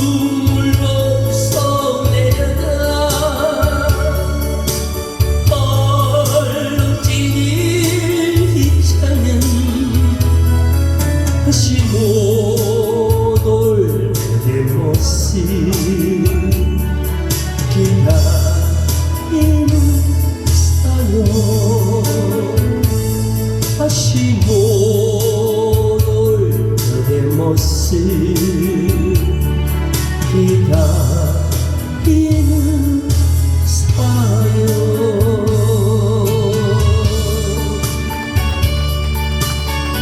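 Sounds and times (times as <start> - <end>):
pulsing bass line: 0.0 - 40.0
vibrato lead melody: 0.0 - 40.0.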